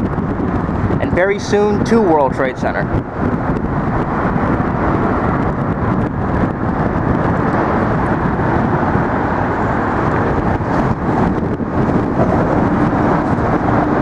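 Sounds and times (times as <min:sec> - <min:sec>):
traffic rumble on bridge: 0:00.0 - 0:14.0.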